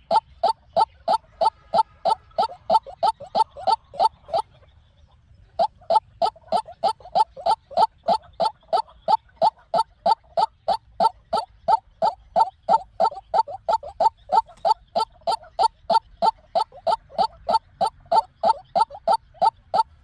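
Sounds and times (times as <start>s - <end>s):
waterhen calling: 0.0s - 4.7s, 5.5s - 20.0s.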